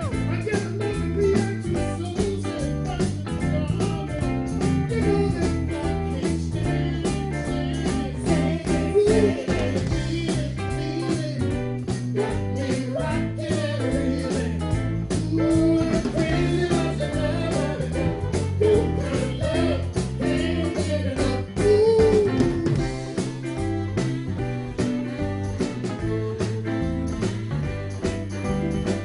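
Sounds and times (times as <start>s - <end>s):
electric bass line: 0.0s - 29.0s
jazz blues band playing: 0.0s - 29.0s.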